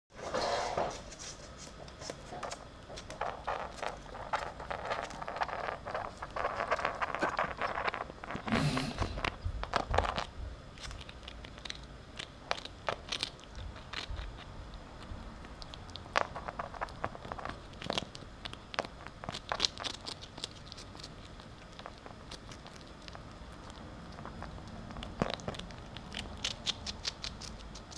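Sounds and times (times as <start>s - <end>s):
ferret chewing crunches: 1.6s - 8.5s, 9.2s - 27.9s.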